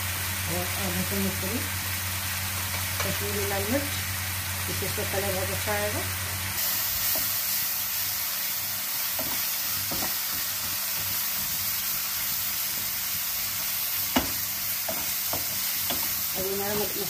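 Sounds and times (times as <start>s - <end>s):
masala sizzling in a pan: 0.0s - 17.0s.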